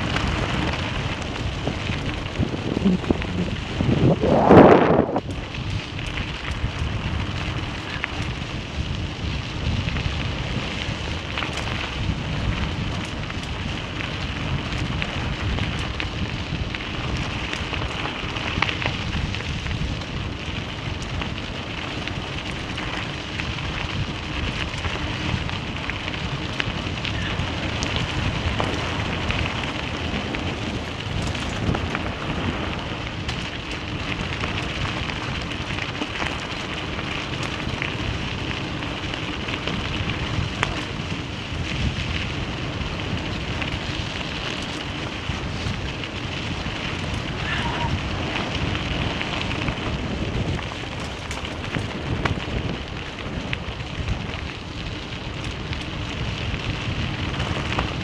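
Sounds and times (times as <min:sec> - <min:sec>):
tyres crunching on gravel: 0:00.0 - 0:58.0
wind on microphone: 0:00.0 - 0:58.0.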